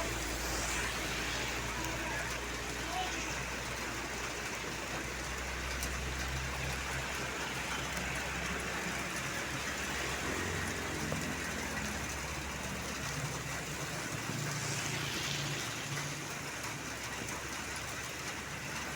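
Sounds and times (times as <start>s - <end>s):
road and wind noise hiss: 0.0s - 18.9s
vehicle engine hum: 0.0s - 18.9s.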